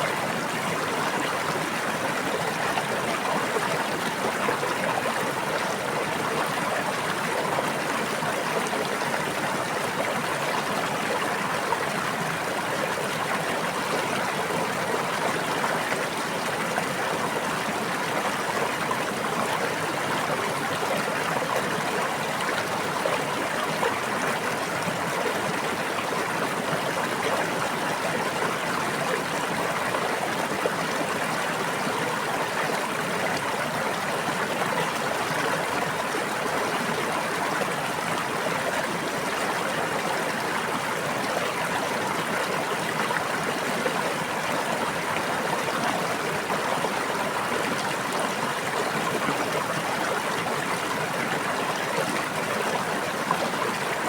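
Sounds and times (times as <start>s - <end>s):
stream water babbling: 0.0s - 54.0s.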